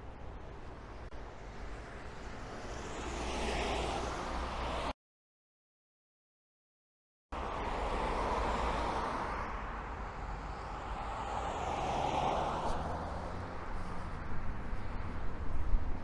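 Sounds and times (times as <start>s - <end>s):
road noise hum: 0.0s - 5.0s, 7.3s - 16.0s
cars passing: 0.4s - 4.9s, 7.4s - 16.0s.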